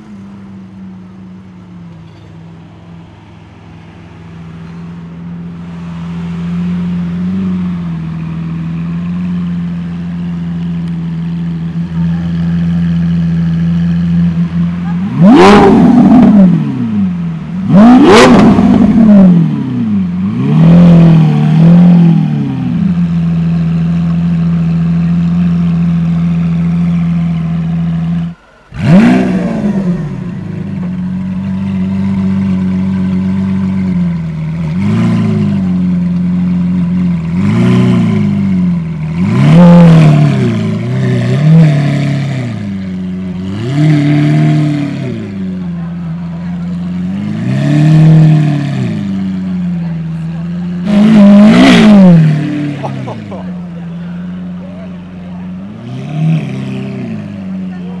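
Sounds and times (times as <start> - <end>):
sports car engine revving: 4.9 - 58.0.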